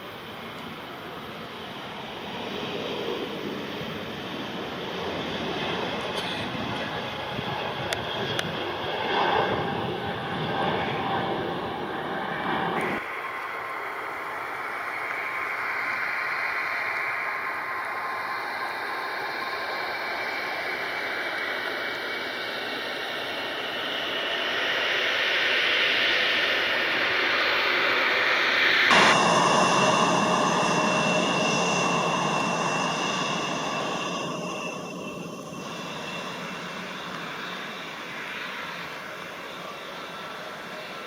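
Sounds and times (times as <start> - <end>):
jet engine noise: 0.0 - 41.0
jet high whine: 0.0 - 41.0.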